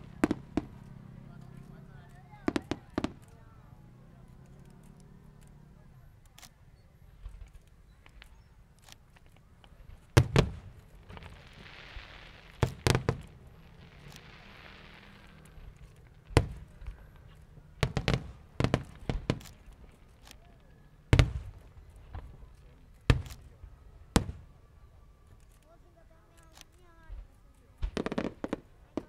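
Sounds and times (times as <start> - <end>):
fireworks banging: 0.0 - 3.7, 7.1 - 24.9, 25.8 - 29.0.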